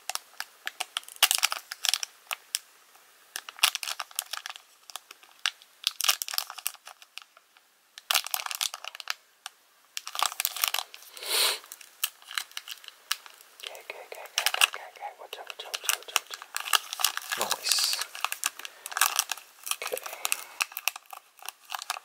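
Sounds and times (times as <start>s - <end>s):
foil wrapper crinkling: 0.1s - 2.6s, 3.4s - 9.2s, 10.0s - 11.0s, 11.6s - 22.0s.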